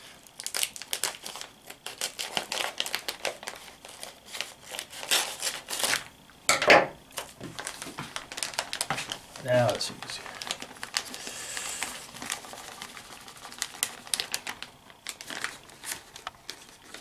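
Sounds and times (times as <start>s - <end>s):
plastic bag crinkling: 0.3s - 6.1s, 7.1s - 17.0s.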